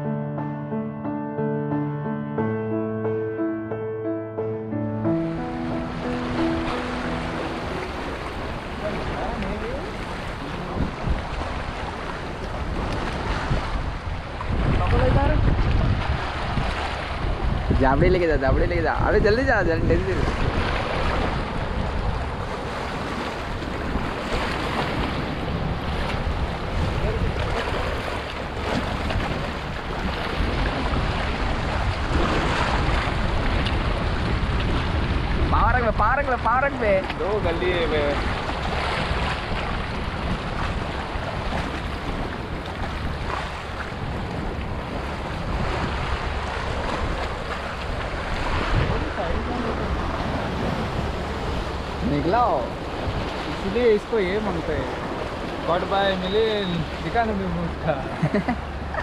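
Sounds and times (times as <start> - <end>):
waves splashing over rocks: 5.0 - 59.0
wind rumbling on microphone: 5.7 - 59.0.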